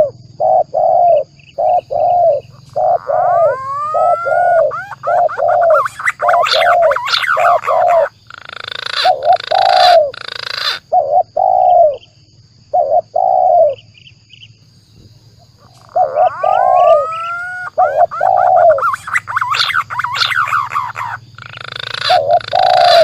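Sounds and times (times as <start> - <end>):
doves cooing: 0.0 - 12.0, 12.7 - 13.8, 15.0 - 23.0
pigeon calls: 0.0 - 12.0, 15.5 - 23.0.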